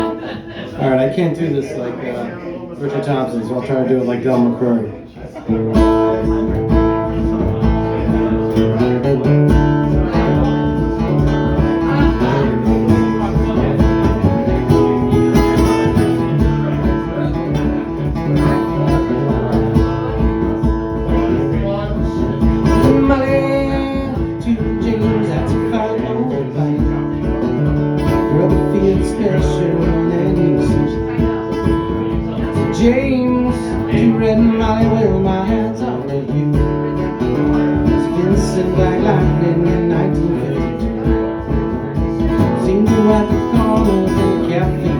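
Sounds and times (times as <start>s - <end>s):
acoustic guitar picking and strumming: 0.0s - 2.2s, 3.0s - 44.9s.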